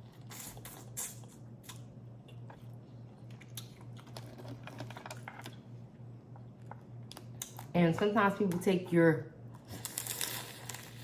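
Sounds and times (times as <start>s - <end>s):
soft crackles of food: 0.0s - 7.8s, 9.6s - 11.0s.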